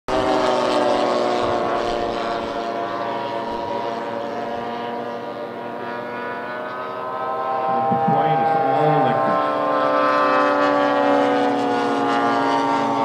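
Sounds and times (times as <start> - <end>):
model aircraft engines droning: 0.1 - 13.0.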